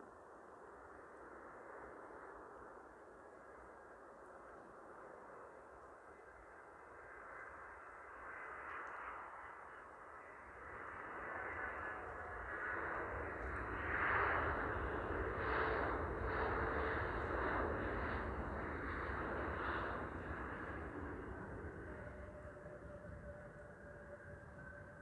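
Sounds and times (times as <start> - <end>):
distant jet engines rushing: 0.0 - 25.0.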